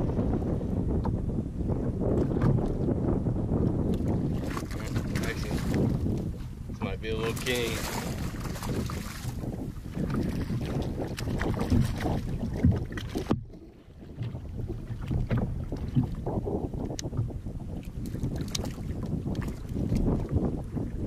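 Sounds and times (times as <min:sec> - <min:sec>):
wind buffeting microphone: 0:00.0 - 0:21.0
water slapping against kayak hull: 0:01.9 - 0:21.0.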